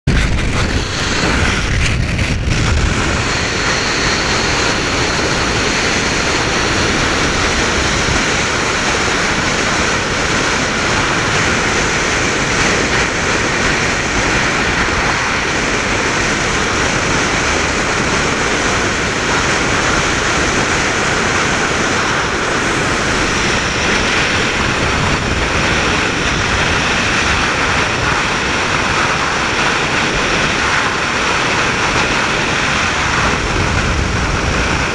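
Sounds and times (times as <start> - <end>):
vehicle and tyre noise: 0.0 - 34.9
wind rushing on microphone: 0.0 - 34.9.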